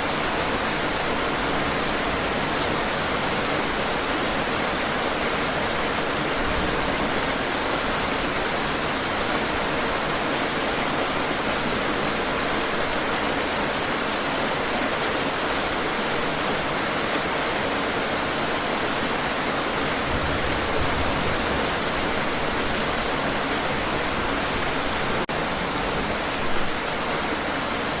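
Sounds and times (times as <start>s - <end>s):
steady rain on a surface: 0.0s - 28.0s.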